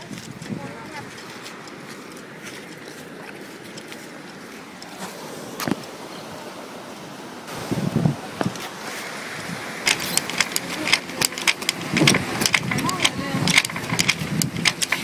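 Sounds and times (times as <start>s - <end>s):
surf and moving water: 0.0s - 15.0s.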